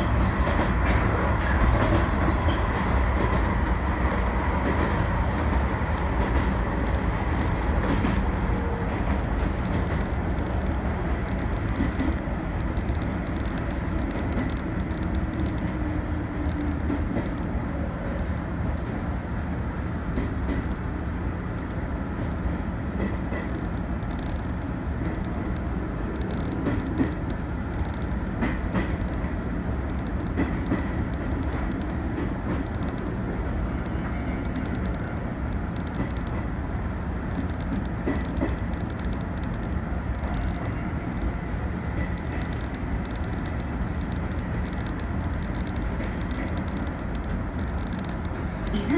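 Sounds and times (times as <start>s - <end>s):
wheels clicking over rail joints: 0.0s - 19.0s, 20.1s - 20.8s, 21.5s - 36.6s, 37.2s - 48.9s
train wheels rumbling on rail: 0.0s - 48.9s.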